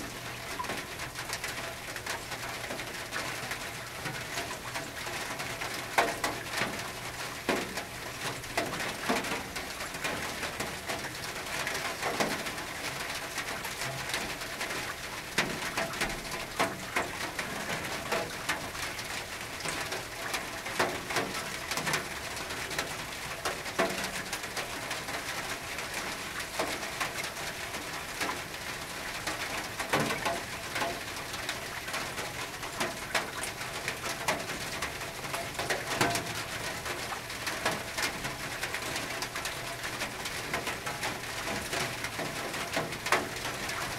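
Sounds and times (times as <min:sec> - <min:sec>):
rain on a tin roof: 0:00.0 - 0:43.9.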